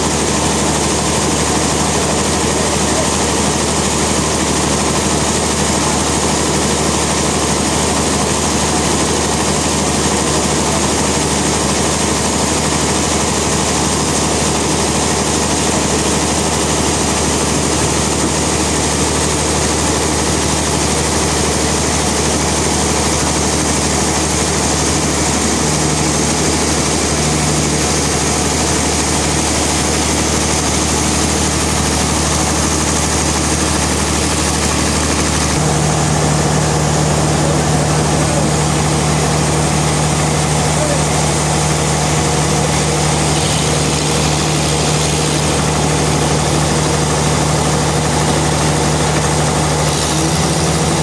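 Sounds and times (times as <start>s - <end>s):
sawmill machinery running: 0.0s - 51.0s.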